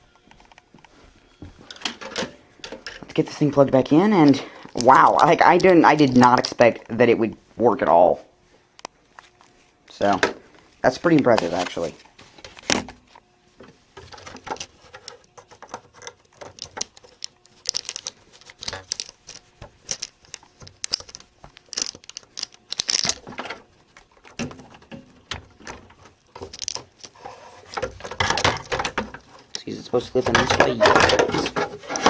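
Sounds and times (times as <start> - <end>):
hands handling computer parts: 0.2 - 7.0, 8.8 - 32.0.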